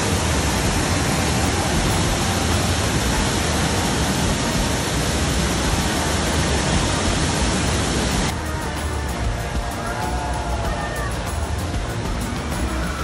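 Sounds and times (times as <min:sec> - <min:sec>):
churning whitewater rushing: 0:00.0 - 0:13.0.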